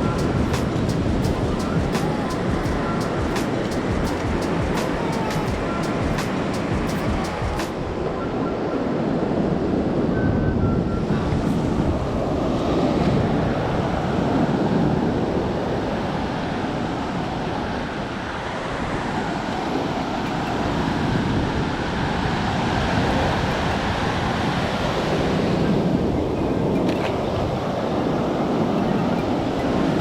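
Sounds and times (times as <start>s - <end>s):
sea waves: 0.0s - 30.0s
wind buffeting microphone: 0.0s - 30.0s.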